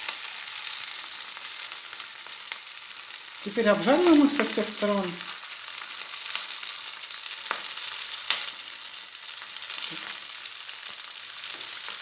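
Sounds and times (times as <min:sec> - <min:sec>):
pancakes sizzling in oil: 0:00.0 - 0:12.0.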